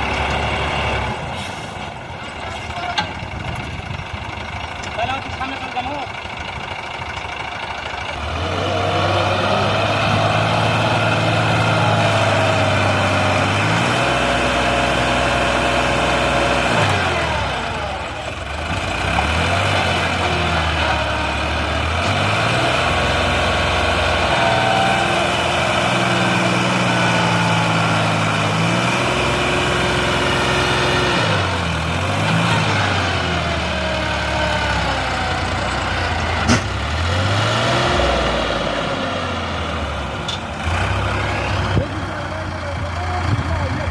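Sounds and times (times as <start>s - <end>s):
heavy diesel engines revving: 0.0s - 43.9s.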